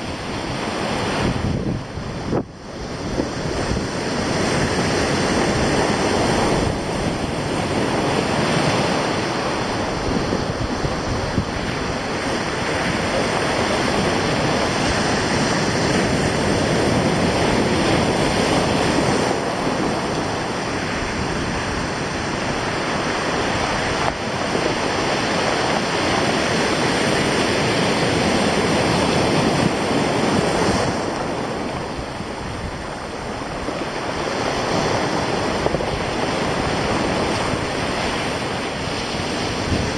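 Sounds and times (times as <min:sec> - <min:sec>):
surf breaking over rocks: 0:00.0 - 0:39.9
wind on microphone: 0:00.0 - 0:39.9.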